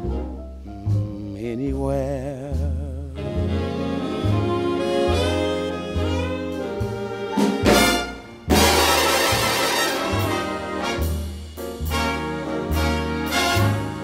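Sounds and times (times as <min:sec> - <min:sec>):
horn-led swing band music: 0:00.0 - 0:01.1, 0:03.1 - 0:14.0
bass line: 0:00.0 - 0:14.0.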